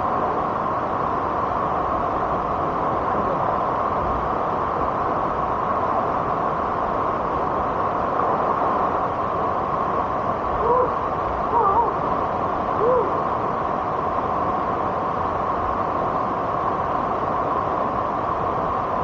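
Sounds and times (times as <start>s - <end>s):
waterfall rushing water roar: 0.0s - 19.0s.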